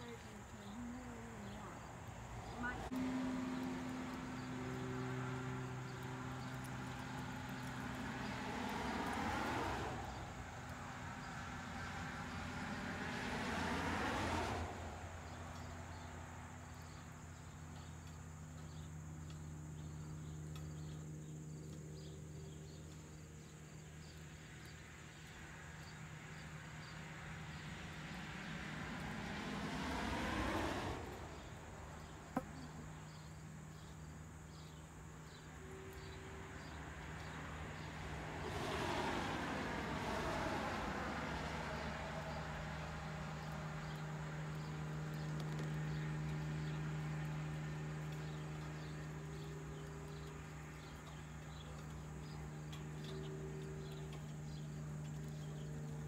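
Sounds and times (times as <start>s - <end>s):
insects chirping: 0.0s - 56.0s
vehicles passing: 0.0s - 56.0s.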